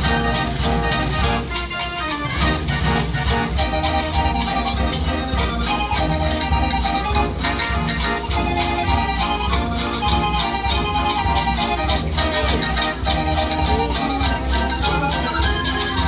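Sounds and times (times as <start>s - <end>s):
street organ playing: 0.0s - 16.0s.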